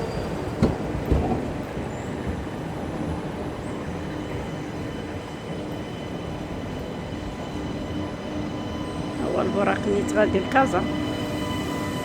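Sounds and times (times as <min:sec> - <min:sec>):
high-speed train rumbling: 0:00.0 - 0:12.0.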